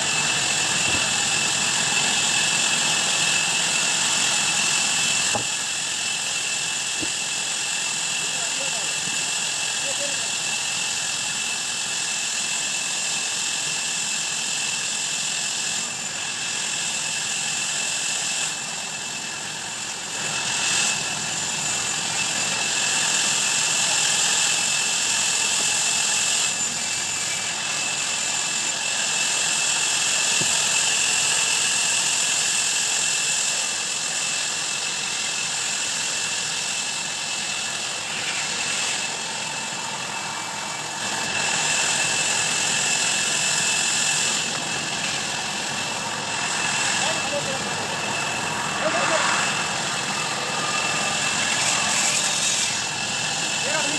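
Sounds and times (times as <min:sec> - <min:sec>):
band saw cutting wood: 0:00.0 - 0:53.9.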